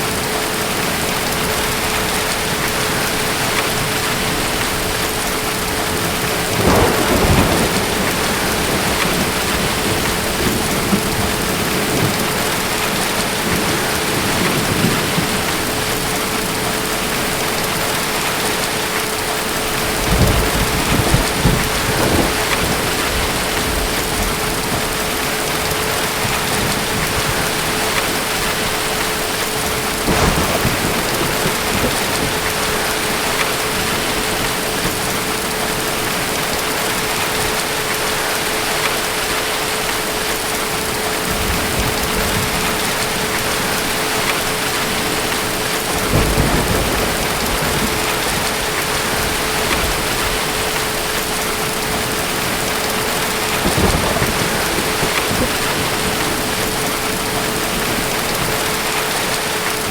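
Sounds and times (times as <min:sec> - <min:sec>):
steady rain: 0:00.0 - 0:59.9
distant thunder rolling: 0:01.0 - 0:18.7, 0:19.5 - 0:38.0, 0:40.8 - 0:59.9.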